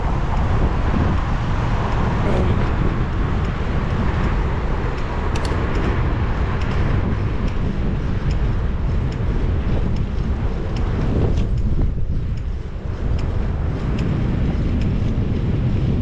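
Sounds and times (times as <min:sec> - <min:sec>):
street traffic rumble: 0:00.0 - 0:16.0
faint ticks: 0:00.1 - 0:15.9.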